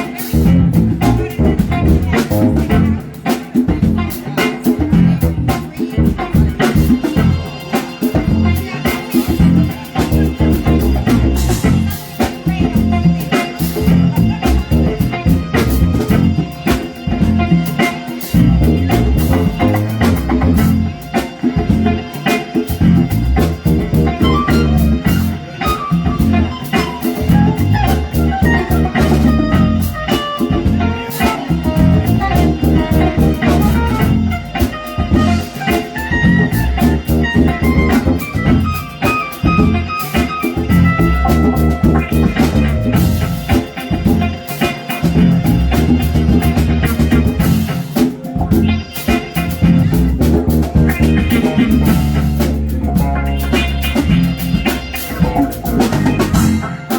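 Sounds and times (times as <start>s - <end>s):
guitar line: 0.0s - 56.9s
live band playing: 0.0s - 56.9s.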